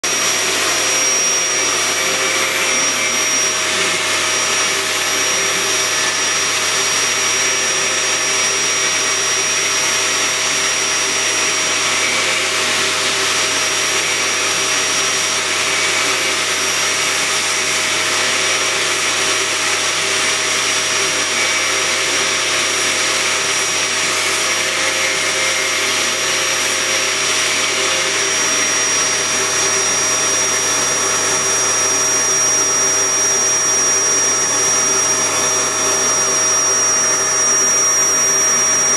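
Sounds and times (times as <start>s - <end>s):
angle grinder running: 0.0s - 38.9s
vacuum cleaner whine: 0.0s - 38.9s.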